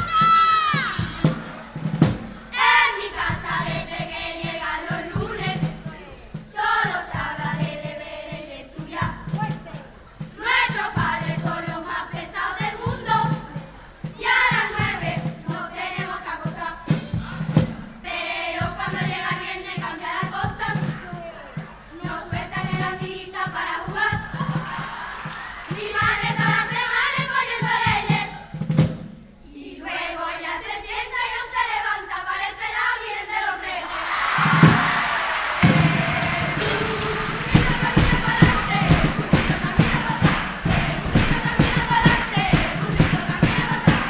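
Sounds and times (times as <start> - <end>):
children's chorus singing: 0.0 - 28.6, 29.4 - 44.0
steady drum beats: 0.0 - 29.4, 33.9 - 44.0.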